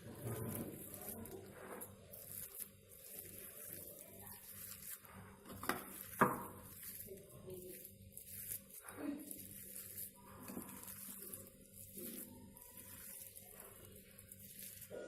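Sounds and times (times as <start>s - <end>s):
spoon scraping vegetable filling: 0.0s - 15.0s.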